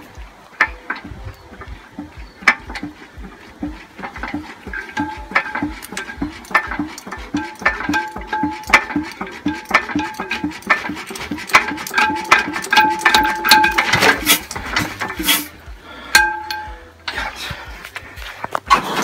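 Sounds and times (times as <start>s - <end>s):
engine turned over by hand: 0.0s - 17.4s.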